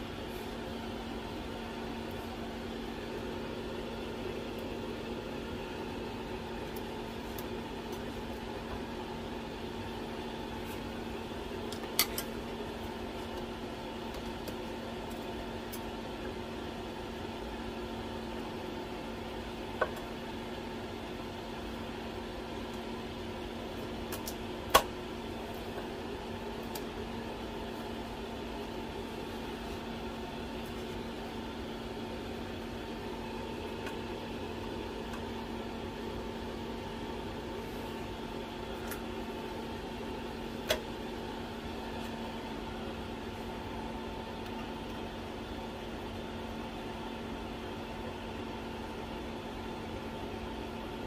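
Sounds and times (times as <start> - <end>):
hot plate electrical hum: 0.0 - 51.0.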